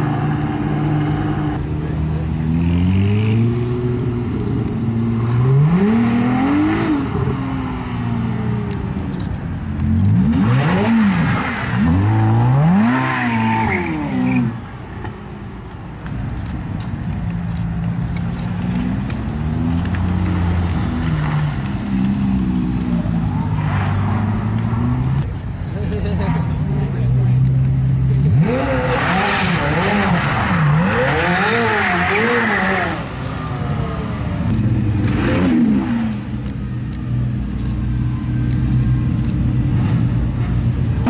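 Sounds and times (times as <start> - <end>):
racing car engines revving: 0.0 - 41.0.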